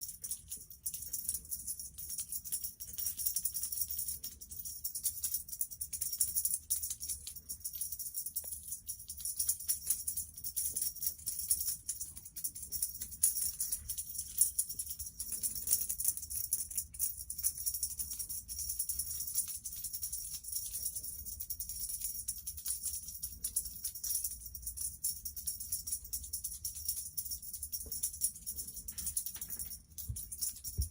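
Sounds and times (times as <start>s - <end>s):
high jingling percussion: 0.0s - 30.9s.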